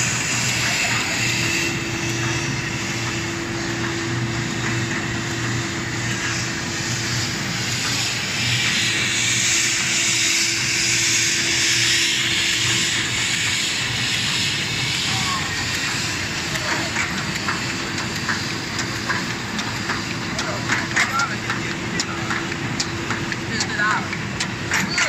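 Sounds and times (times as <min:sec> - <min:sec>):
laminator machine humming: 0:00.0 - 0:25.0.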